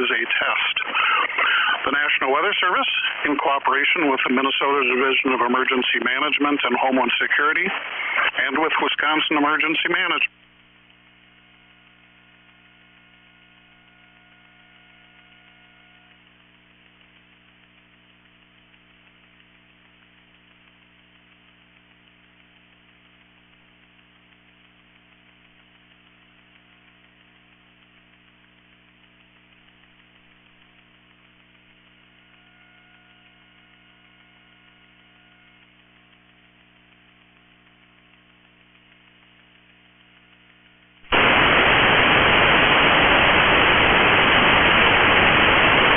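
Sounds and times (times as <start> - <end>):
electrical hum: 0.0 - 45.9
low hiss: 0.0 - 45.9.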